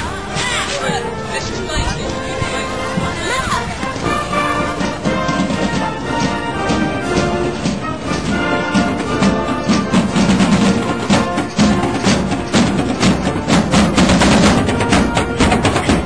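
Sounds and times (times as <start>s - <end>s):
drum beats: 0.0s - 16.0s
marching band playing: 0.0s - 16.0s.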